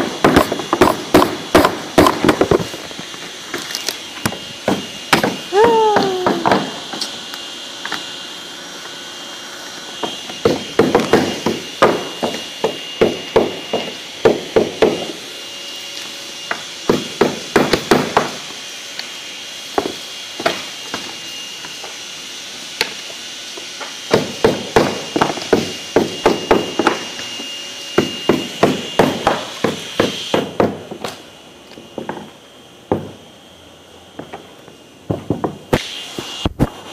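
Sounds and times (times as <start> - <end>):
steady high whine: 0.0 - 17.6, 24.9 - 36.9.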